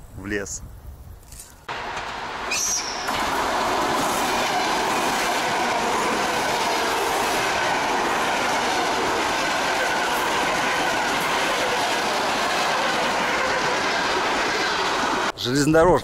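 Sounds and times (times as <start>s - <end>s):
train passing on rails: 1.6s - 15.4s.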